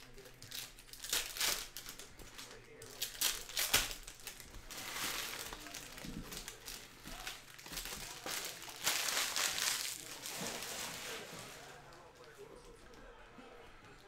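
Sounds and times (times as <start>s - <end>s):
foil wrappers crinkling: 0.0s - 12.7s.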